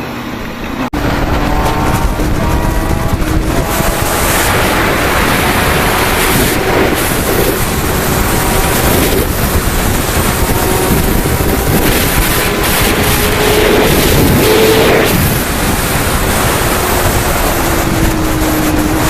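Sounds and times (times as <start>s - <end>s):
motorcycle engine: 0.0s - 19.0s
wind rush on microphone: 0.0s - 19.0s.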